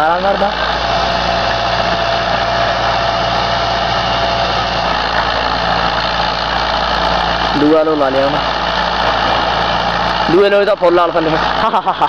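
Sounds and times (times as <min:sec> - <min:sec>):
thin steady whine: 0:00.0 - 0:12.0
tractor diesel engine running: 0:00.0 - 0:12.0.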